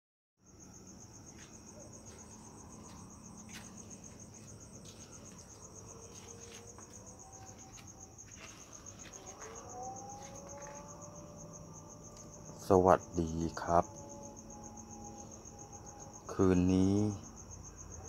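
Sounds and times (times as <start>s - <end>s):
crickets trilling: 0.4s - 18.0s.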